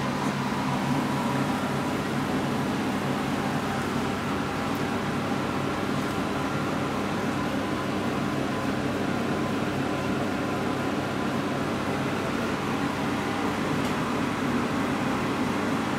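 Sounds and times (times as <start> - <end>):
mechanical hum with hiss: 0.0 - 15.9.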